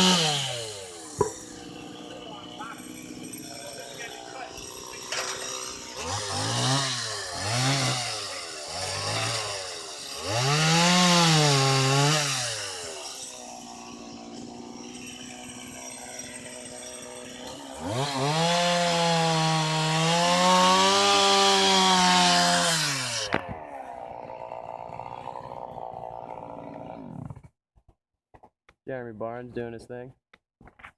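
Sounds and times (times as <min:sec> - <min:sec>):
chainsaw engine revving: 0:00.0 - 0:27.4.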